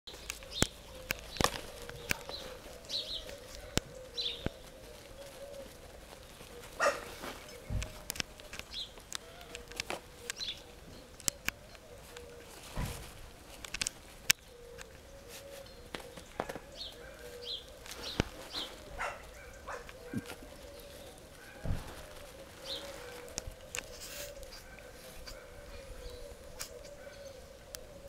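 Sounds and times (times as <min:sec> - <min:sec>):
puppies playing on turf: 0:00.1 - 0:28.0.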